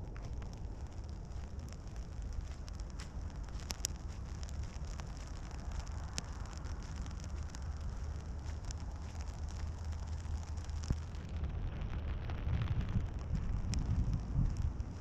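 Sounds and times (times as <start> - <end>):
rain on an umbrella: 0.0 - 15.0
wind rumble on microphone: 0.0 - 15.0.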